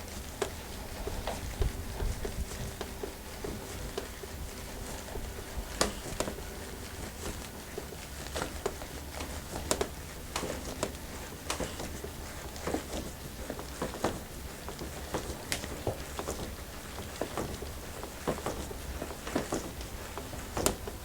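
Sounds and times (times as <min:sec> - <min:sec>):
light clicks and crackles: 0:00.0 - 0:21.0.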